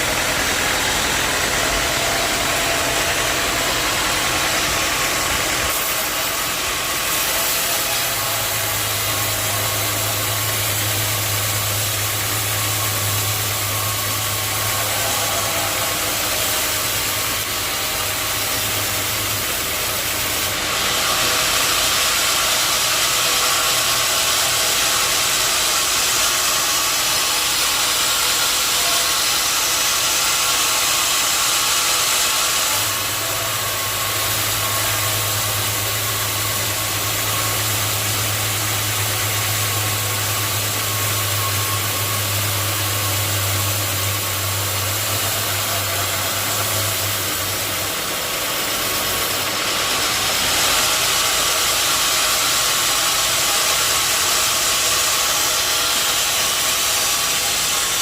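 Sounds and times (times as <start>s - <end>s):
sawmill hiss and engine: 0.0s - 58.0s.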